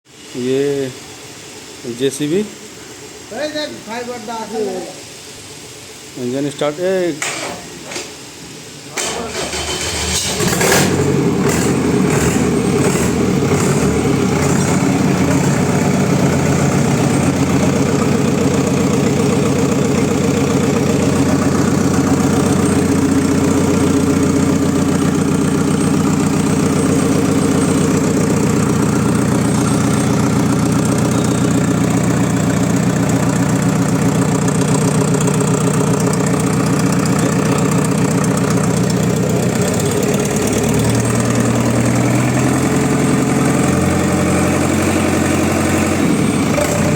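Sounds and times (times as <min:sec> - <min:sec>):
diesel engine idling: 0:09.1 - 0:46.9.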